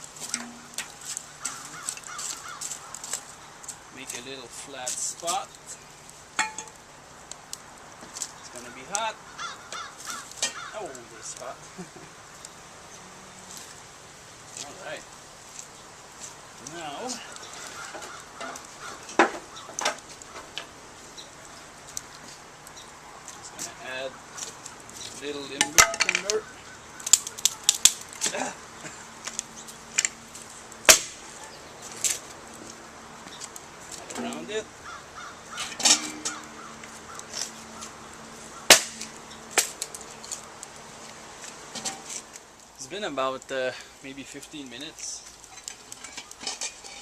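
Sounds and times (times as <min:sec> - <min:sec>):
campfire crackling: 0:00.0 - 0:47.0
wood rustling: 0:00.0 - 0:47.0.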